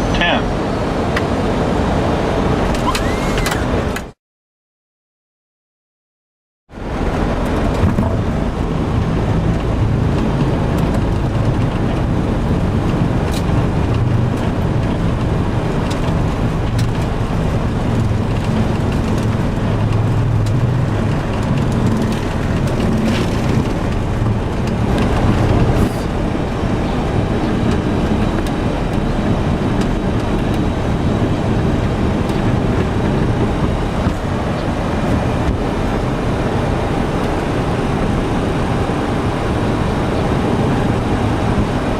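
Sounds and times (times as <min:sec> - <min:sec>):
aircraft engine and rolling rumble: 0:00.0 - 0:04.2, 0:06.8 - 0:41.9.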